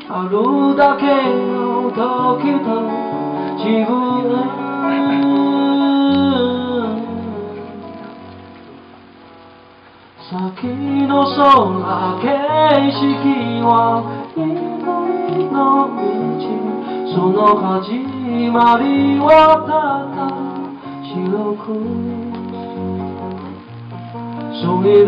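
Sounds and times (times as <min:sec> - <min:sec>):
man singing: 0:00.0 - 0:08.2, 0:10.2 - 0:23.3, 0:24.4 - 0:25.0
strummed acoustic guitar: 0:00.0 - 0:25.0.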